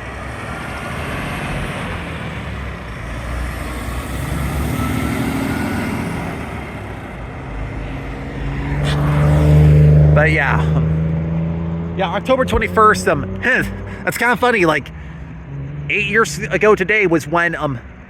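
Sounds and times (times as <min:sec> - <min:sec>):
road traffic: 0:00.0 - 0:18.0
truck diesel engine: 0:00.0 - 0:18.0.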